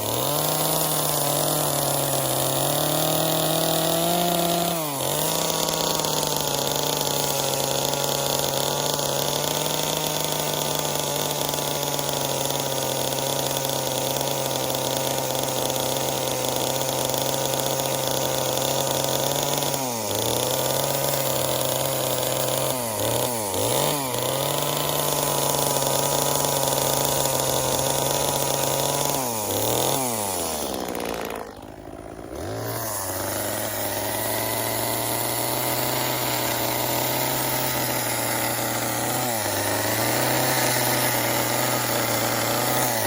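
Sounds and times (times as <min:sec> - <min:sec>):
chainsaw at high revs: 0:00.0 - 0:43.0.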